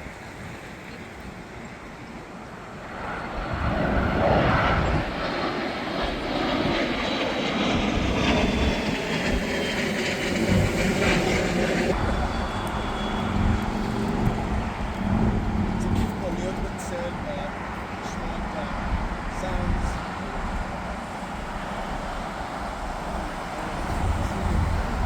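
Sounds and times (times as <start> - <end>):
jet airliner engines passing: 0.0 - 25.0.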